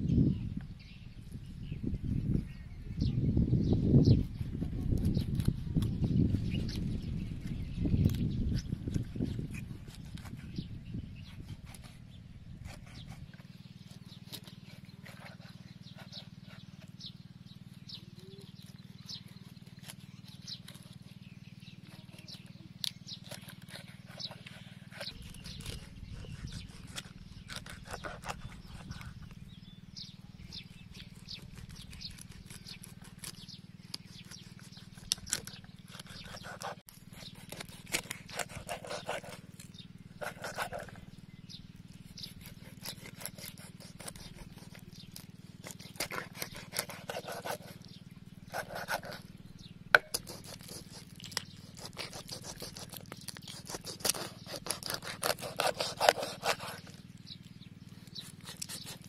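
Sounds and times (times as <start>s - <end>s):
knife sawing through fish: 4.2s - 17.2s, 18.2s - 29.4s, 30.5s - 41.2s, 41.9s - 49.3s, 49.9s - 59.0s.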